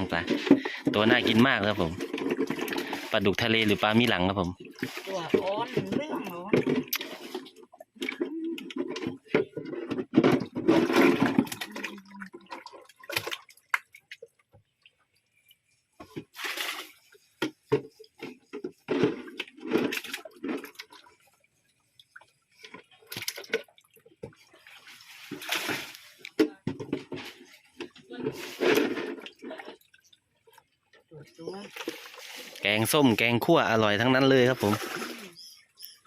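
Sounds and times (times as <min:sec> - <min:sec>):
water splashing: 0:00.0 - 0:36.0.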